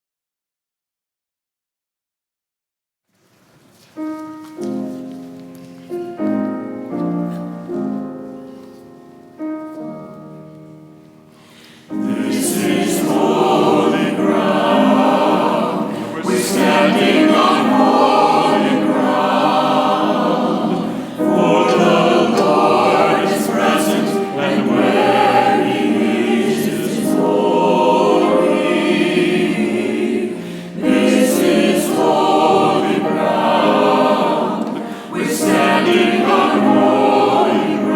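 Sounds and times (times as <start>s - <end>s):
soft piano notes: 3.6s - 37.9s
church choir singing: 4.4s - 37.9s.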